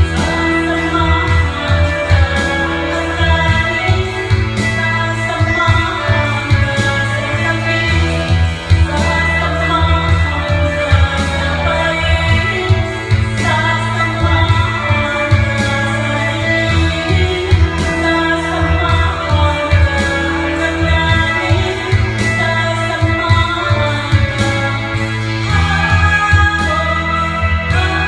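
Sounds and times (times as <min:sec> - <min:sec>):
karaoke backing track: 0:00.0 - 0:28.0
woman singing into a microphone: 0:00.0 - 0:28.0.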